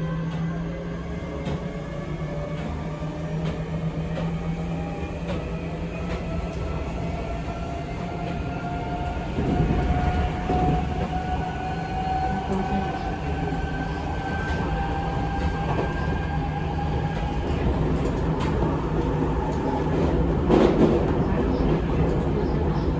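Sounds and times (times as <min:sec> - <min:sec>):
train rumble: 0:00.0 - 0:22.9
electric train motor whine: 0:00.9 - 0:20.1
wheels clicking over rail joints: 0:01.0 - 0:20.8.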